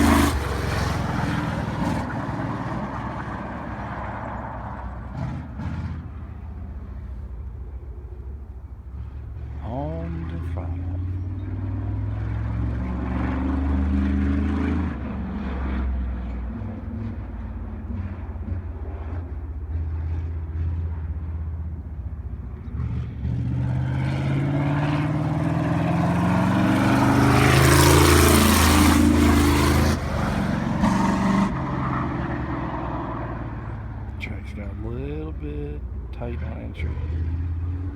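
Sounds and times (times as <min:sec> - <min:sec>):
race car engine passing: 0:00.0 - 0:37.9.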